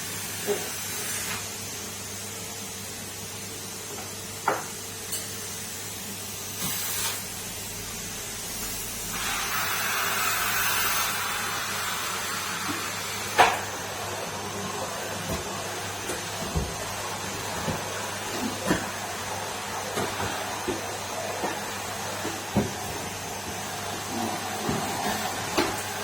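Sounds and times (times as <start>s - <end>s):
vacuum cleaner running: 0.0s - 4.7s, 5.5s - 26.0s.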